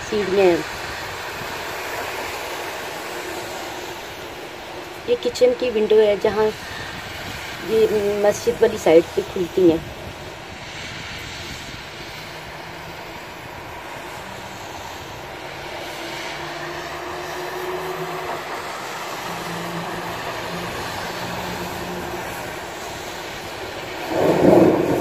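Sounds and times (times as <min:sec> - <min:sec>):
cars passing on wet street: 0:00.0 - 0:25.0
heavy rain falling: 0:00.0 - 0:25.0.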